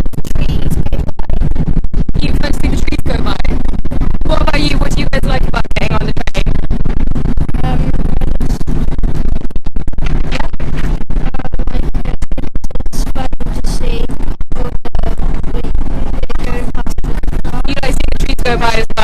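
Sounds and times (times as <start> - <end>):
scratching on microphone: 0.0 - 19.0.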